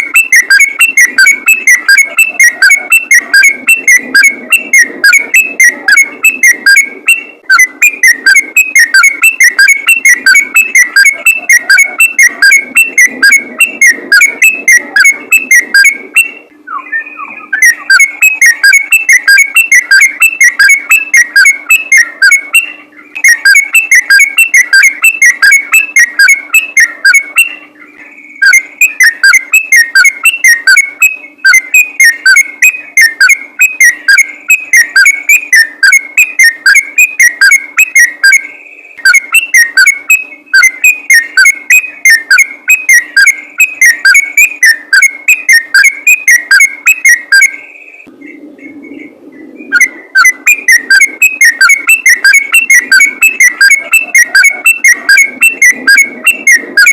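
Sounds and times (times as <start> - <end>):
bird chirping rapidly: 0.0 - 56.9.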